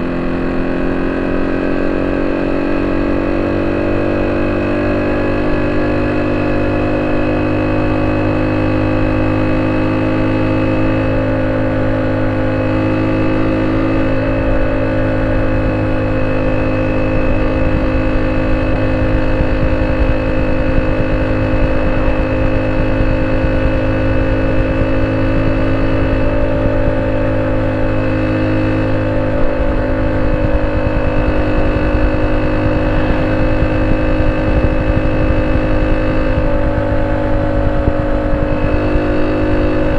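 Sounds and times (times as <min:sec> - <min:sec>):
small motorcycle engine running: 0:00.0 - 0:39.9.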